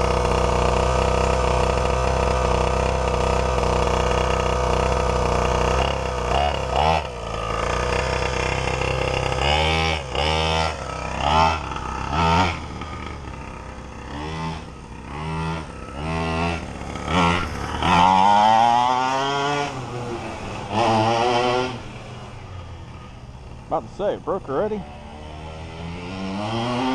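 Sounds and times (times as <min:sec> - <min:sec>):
small gasoline engine revving: 0:00.0 - 0:26.9.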